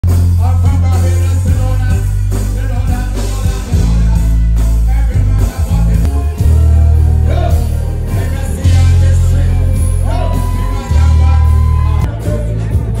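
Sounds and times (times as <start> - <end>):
booming bass line: 0.0 - 13.0
man singing into microphone: 0.2 - 13.0.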